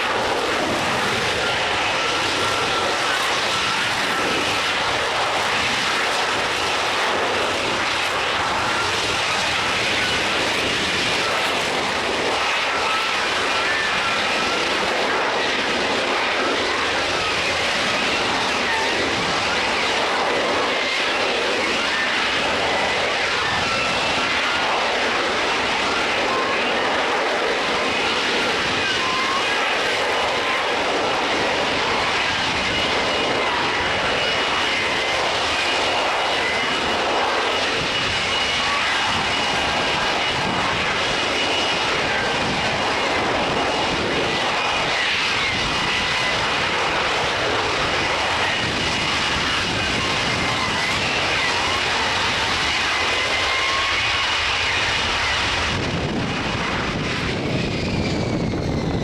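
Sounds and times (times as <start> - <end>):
faint high whine: 0.0 - 59.0
jet engines roaring: 0.0 - 59.0.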